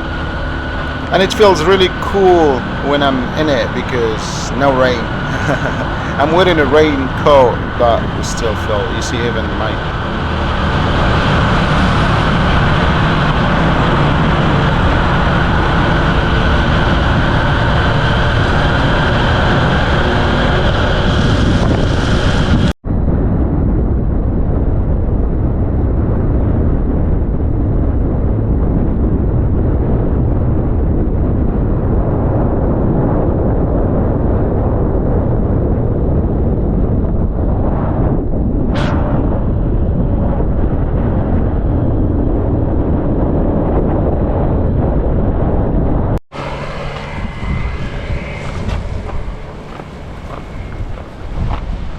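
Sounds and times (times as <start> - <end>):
wind and road noise: 0.0 - 51.9
wind buffeting microphone: 0.0 - 51.9.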